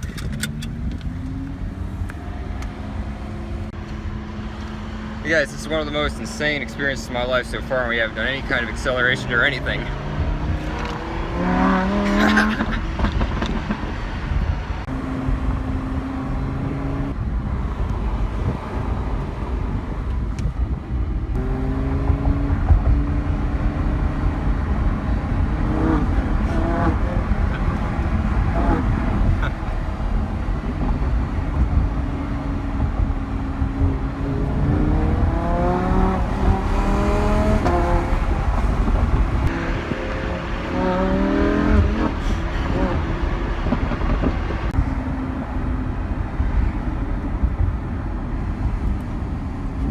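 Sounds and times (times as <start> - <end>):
car engine deep rumble: 0.0 - 49.9.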